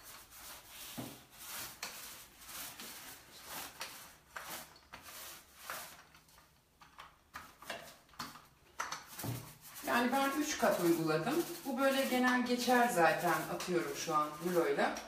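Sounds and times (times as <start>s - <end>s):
paint roller on tiles: 0.0s - 15.0s.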